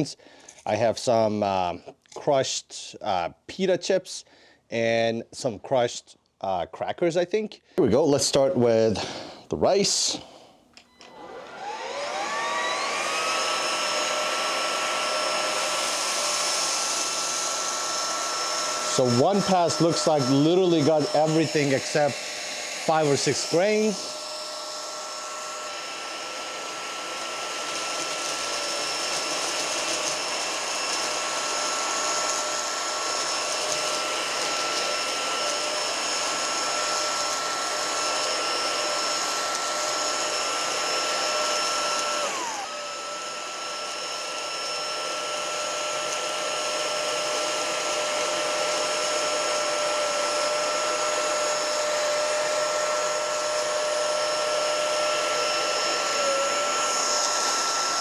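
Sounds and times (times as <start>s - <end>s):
stick vacuum motor whine: 10.1s - 58.0s
vacuum head on carpet: 10.8s - 58.0s.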